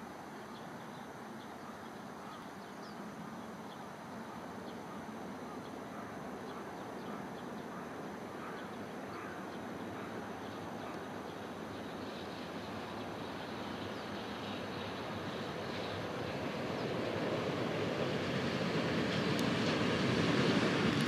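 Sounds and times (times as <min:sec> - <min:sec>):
distant freight train rumble: 0:00.0 - 0:21.0.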